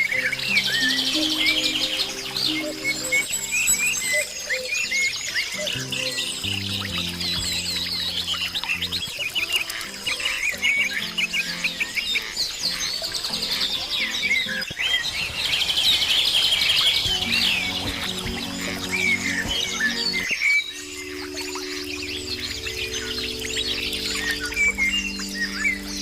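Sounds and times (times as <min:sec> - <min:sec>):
soft background music: 0:00.0 - 0:14.7, 0:16.9 - 0:26.0
small birds chirping and twittering: 0:00.0 - 0:26.0.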